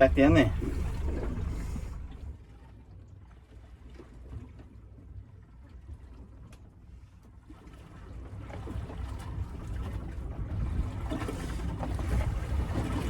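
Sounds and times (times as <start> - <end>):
low rumble of wind and water: 0.0 - 13.0.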